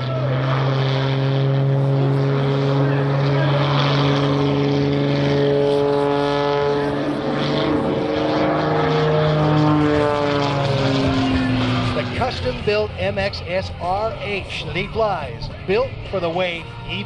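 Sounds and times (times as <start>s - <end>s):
airplane engine droning in flight: 0.0s - 17.0s.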